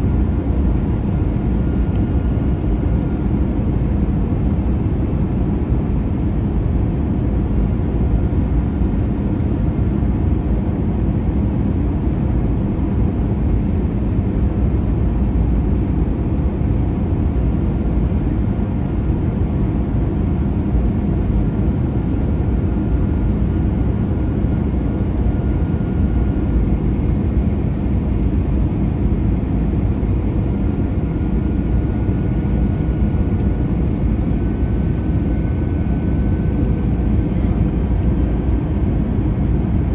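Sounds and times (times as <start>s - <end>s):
airflow and jet engines rumble: 0.0s - 39.9s.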